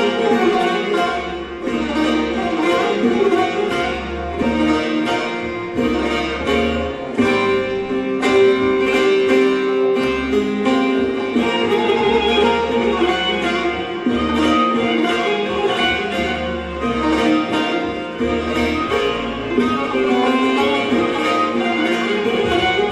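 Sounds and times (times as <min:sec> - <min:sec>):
plucked string instruments: 0:00.0 - 0:22.9.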